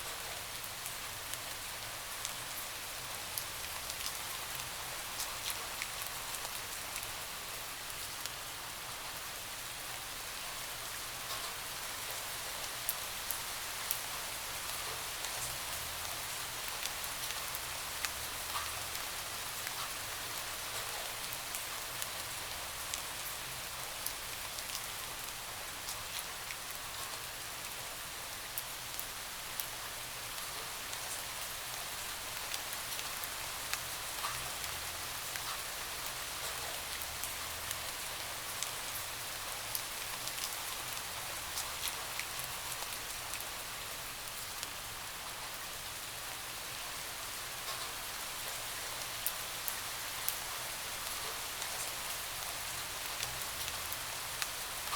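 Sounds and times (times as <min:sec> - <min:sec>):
rain hissing on a window: 0:00.0 - 0:54.9.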